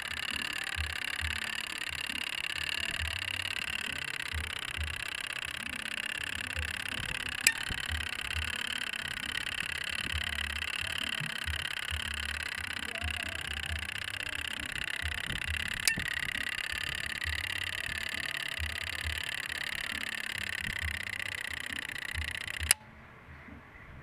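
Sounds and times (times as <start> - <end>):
timer whirring hiss: 0.0 - 22.8
timer clicks: 0.0 - 22.9.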